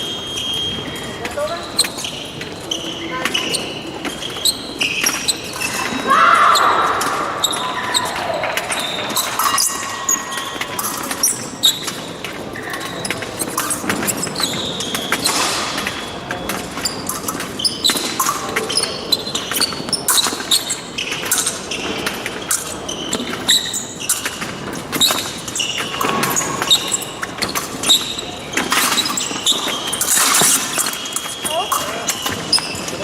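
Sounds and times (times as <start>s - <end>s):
shoes squeaking: 0.0s - 33.0s.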